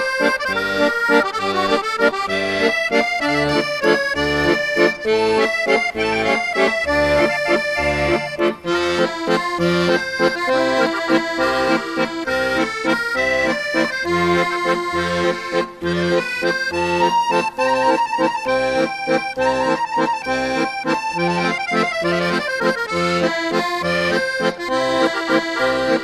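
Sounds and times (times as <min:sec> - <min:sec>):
instrumental music with bass beat: 0:00.0 - 0:26.0.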